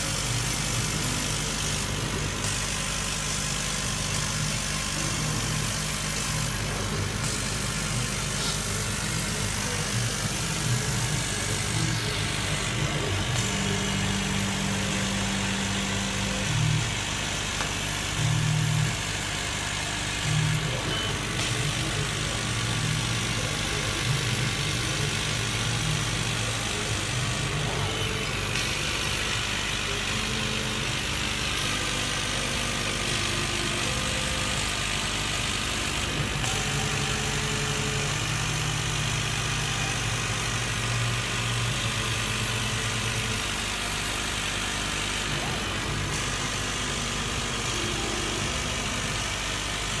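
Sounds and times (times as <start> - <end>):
motors whirring: 0.0 - 50.0.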